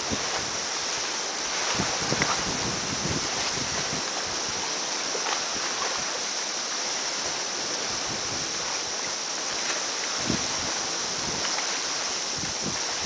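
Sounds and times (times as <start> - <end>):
wind bump on microphone: 0.0 - 6.2, 7.3 - 13.0
wind and water hiss: 0.0 - 13.0.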